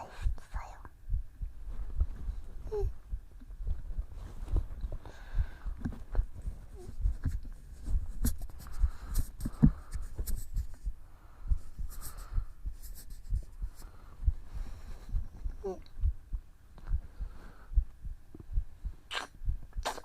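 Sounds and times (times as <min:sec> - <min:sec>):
heartbeat thumps: 0:00.0 - 0:20.0
rustling against microphone: 0:01.4 - 0:17.7.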